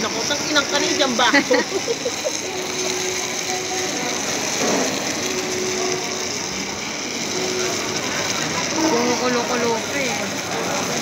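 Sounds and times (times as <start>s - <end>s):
food sizzling on hot plate: 0.0s - 11.0s.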